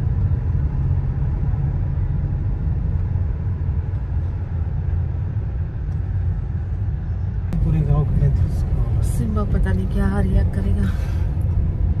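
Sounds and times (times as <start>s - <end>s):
car interior engine and road rumble: 0.0s - 12.0s.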